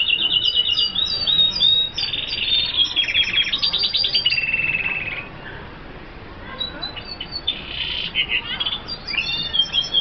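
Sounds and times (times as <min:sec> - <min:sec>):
bird singing twittering trills: 0:00.0 - 0:05.4, 0:06.5 - 0:10.0.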